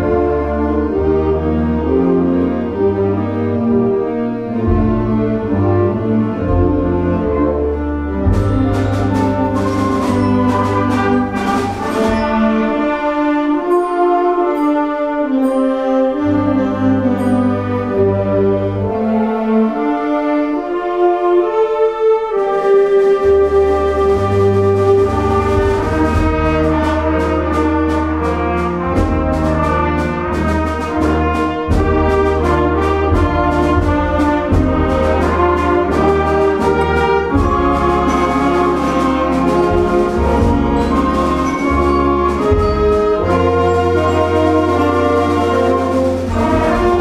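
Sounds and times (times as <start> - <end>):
concert band playing: 0.0 - 47.0.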